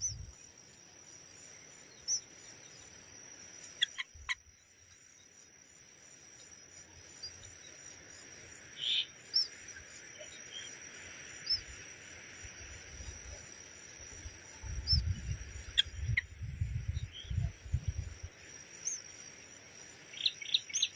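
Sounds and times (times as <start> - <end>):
high insect drone: 0.0 - 20.9
small birds chirping: 0.0 - 20.9.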